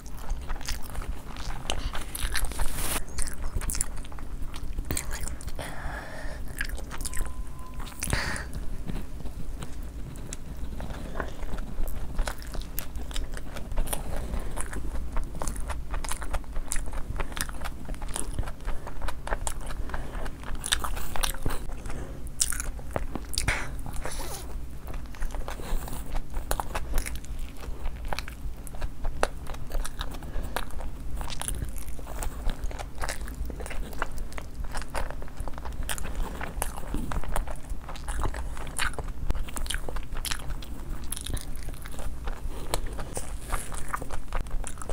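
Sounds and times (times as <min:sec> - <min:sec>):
crunchy chewing: 0:00.0 - 0:44.9.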